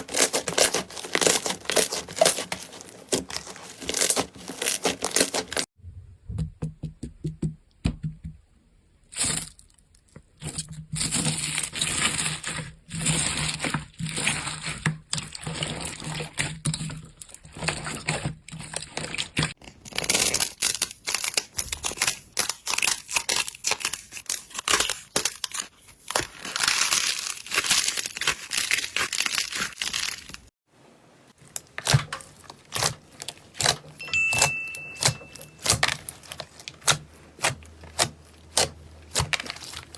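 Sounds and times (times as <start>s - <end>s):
slime crackling and crinkling: 0.0s - 5.8s, 9.1s - 30.5s, 31.2s - 39.9s.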